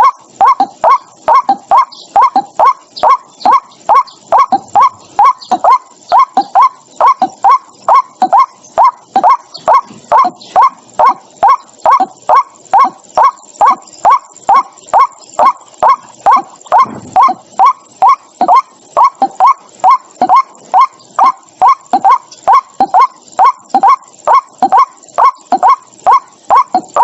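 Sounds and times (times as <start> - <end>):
bird calling hoarse notes: 0.0 - 27.0.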